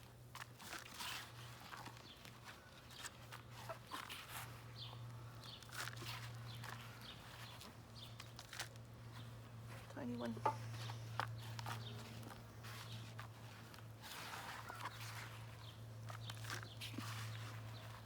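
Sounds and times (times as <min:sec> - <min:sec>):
hands digging through soil: 0:00.1 - 0:18.0.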